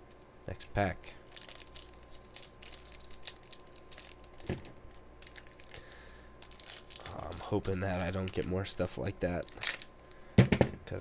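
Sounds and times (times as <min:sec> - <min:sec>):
foil wrapper crinkling: 0:01.2 - 0:10.3.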